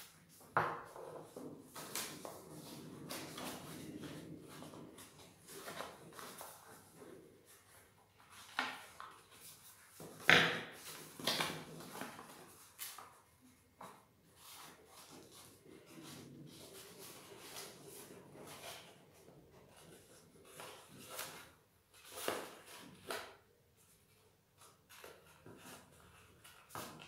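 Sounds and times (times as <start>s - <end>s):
paper rustling and crackling: 0.4s - 23.4s.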